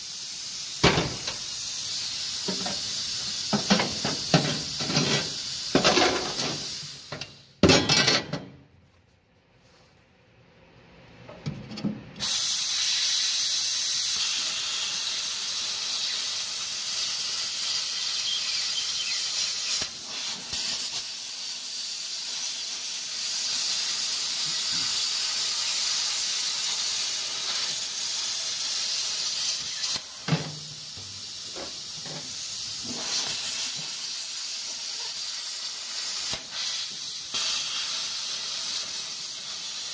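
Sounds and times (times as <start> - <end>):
plasma cutter hissing: 0.0 - 7.6, 12.2 - 39.9.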